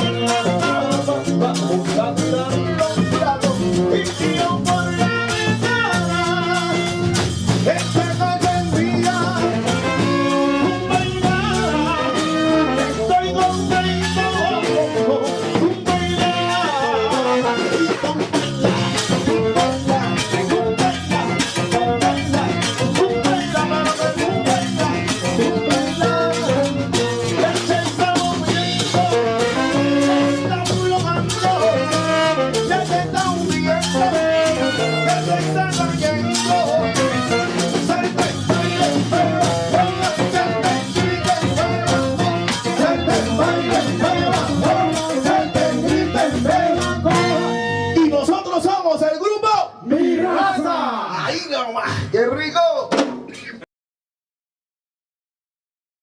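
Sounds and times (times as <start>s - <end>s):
salsa band playing: 0.0s - 50.8s, 52.9s - 53.7s.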